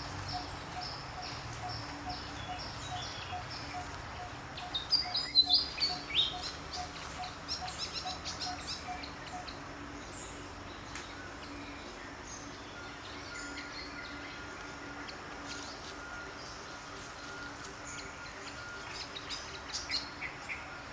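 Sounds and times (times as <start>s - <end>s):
birds chirping: 0.0s - 20.9s
outdoor ambience: 0.0s - 20.9s.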